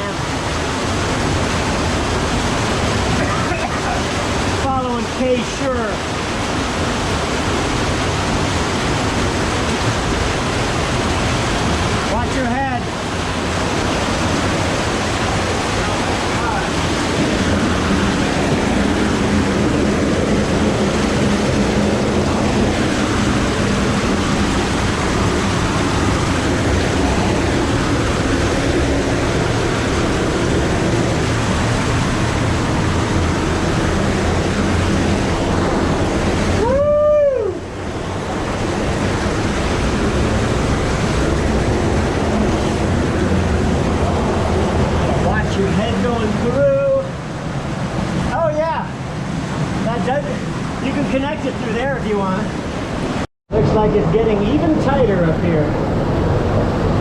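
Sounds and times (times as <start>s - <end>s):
creek rushing: 0.0s - 57.0s.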